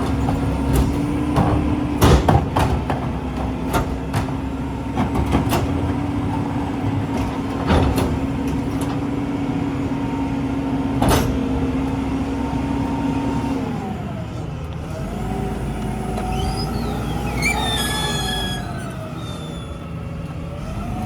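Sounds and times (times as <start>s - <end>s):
garbage truck engine whine: 0.0s - 21.0s.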